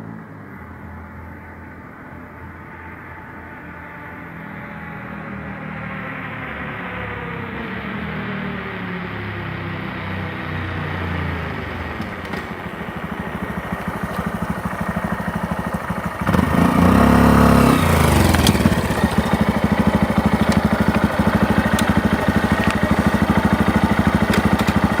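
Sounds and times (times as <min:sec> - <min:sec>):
motorcycle engine revving and idling: 0:00.5 - 0:25.0.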